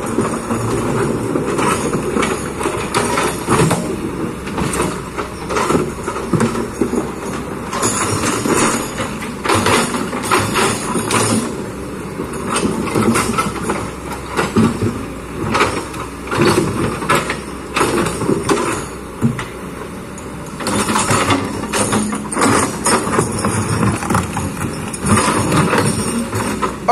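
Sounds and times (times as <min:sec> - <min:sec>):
steel bucket clanking on rocks: 0:00.0 - 0:19.6, 0:20.2 - 0:26.9
excavator engine under load: 0:00.0 - 0:26.9.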